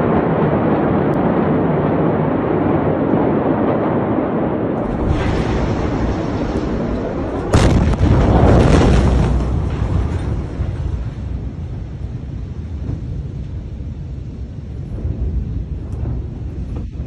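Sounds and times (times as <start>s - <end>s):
explosion boom: 0.0s - 17.0s
low rumble: 0.0s - 17.0s.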